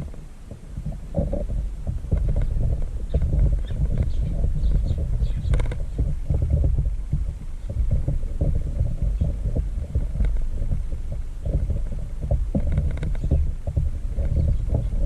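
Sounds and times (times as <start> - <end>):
birds pecking feeder dish: 0.0 - 15.0.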